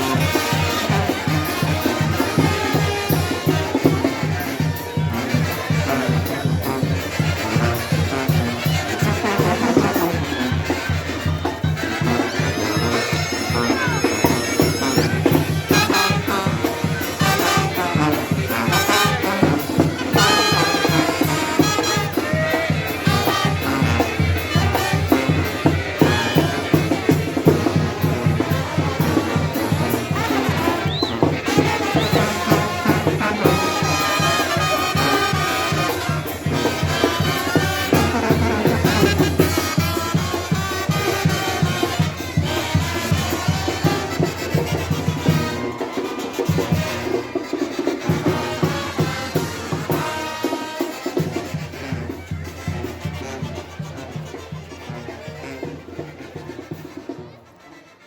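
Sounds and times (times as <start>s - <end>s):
live band with brass and drums: 0.0s - 58.0s.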